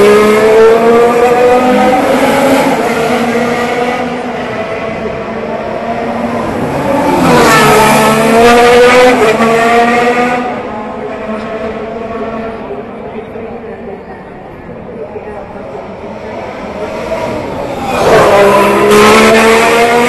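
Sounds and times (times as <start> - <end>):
racing cars passing at speed: 0.0 - 14.0, 15.6 - 20.0.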